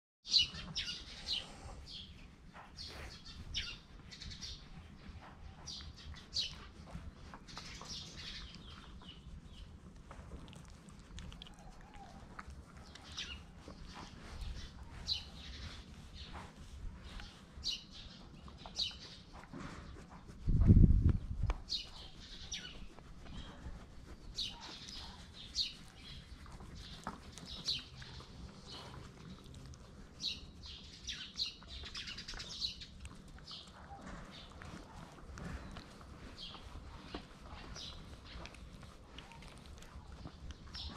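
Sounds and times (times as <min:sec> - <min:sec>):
small birds chirping: 0:00.2 - 0:40.9.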